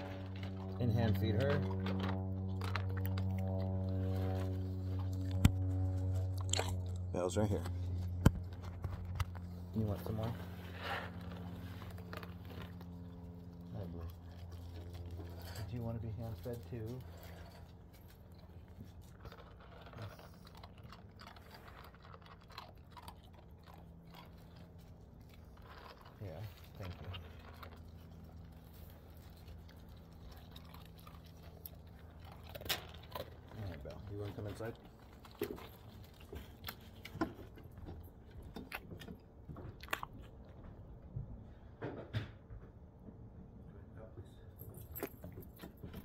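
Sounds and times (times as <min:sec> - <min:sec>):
dog chewing crunches: 0:00.0 - 0:41.0.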